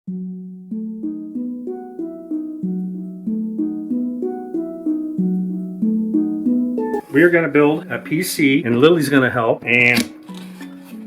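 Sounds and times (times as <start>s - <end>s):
plucked harp-like melody: 0.1s - 11.0s.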